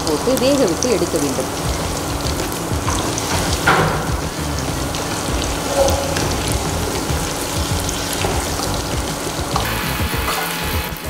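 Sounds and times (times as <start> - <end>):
meat deep-frying in oil: 0.0 - 11.0.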